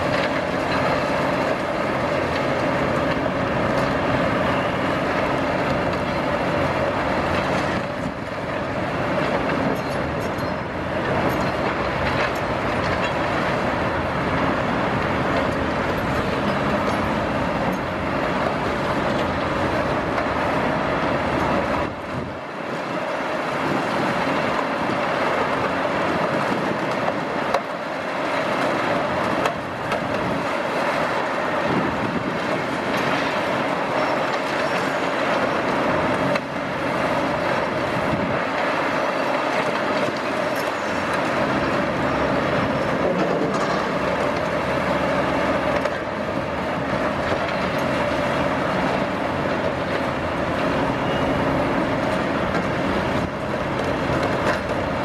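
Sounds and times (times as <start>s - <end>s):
excavator engine rumble: 0.0s - 55.0s.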